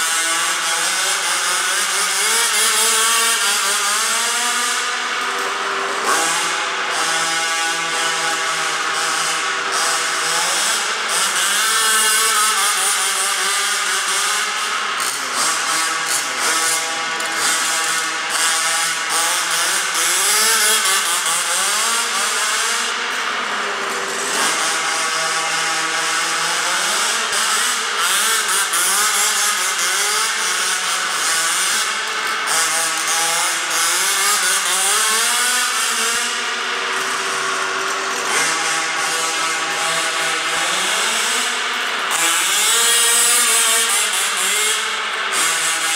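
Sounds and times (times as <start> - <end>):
two-stroke engine revving: 0.0 - 45.9.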